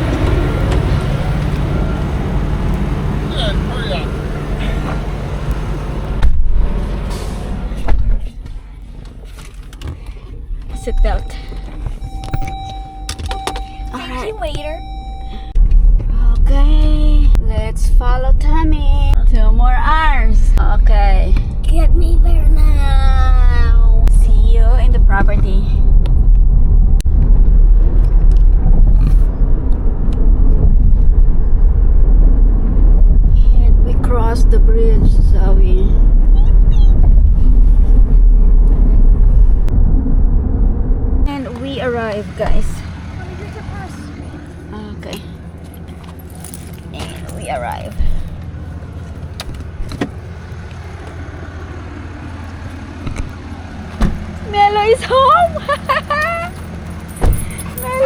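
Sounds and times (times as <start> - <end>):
car driving low rumble: 0.0 - 58.0.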